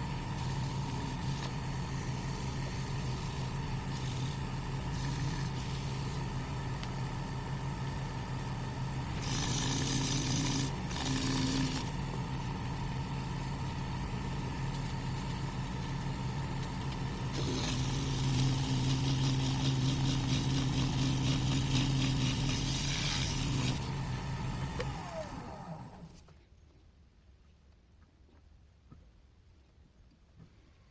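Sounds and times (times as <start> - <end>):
lathe motor hum: 0.0 - 26.2.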